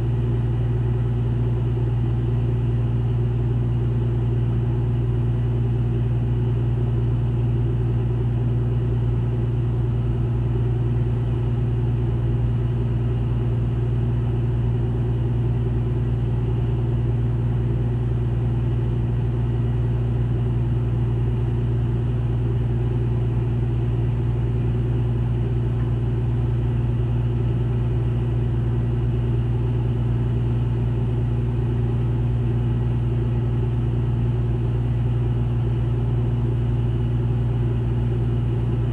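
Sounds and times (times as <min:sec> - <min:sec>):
ship diesel engine drone: 0:00.0 - 0:38.9.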